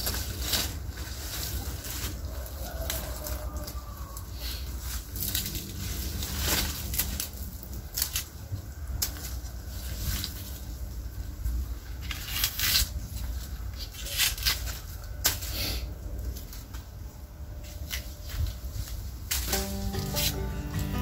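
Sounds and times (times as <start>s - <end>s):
leaves rustling and crackling: 0.0s - 21.0s.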